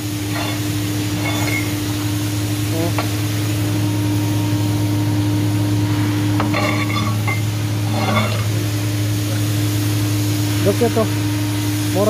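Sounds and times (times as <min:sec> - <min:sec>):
shop machinery humming: 0:00.0 - 0:12.0.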